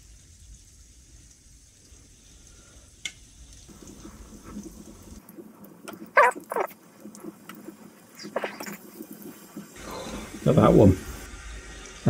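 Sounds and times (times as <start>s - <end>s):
chicken frying in oil: 0.0s - 12.0s.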